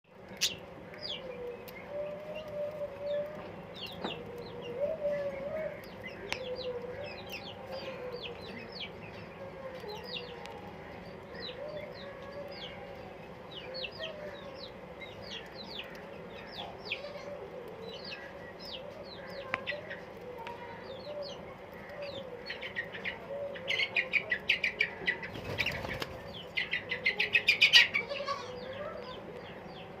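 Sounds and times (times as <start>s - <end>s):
birds chattering calls: 0.1s - 30.0s
birds chirping: 0.1s - 30.0s.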